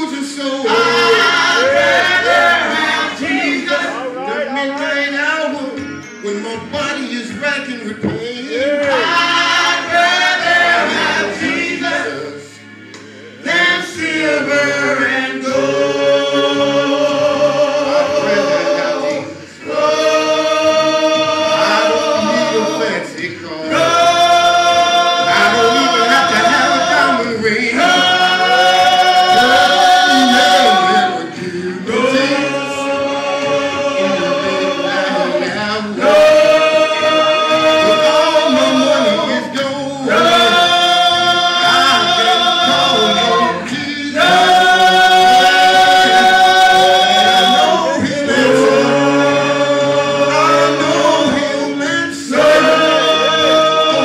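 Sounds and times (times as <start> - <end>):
vocal group singing in harmony: 0.0 - 54.0.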